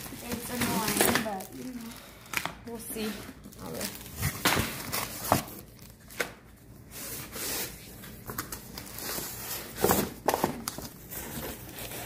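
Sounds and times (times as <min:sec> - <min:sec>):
cardboard and plastic rustling: 0:00.0 - 0:12.0.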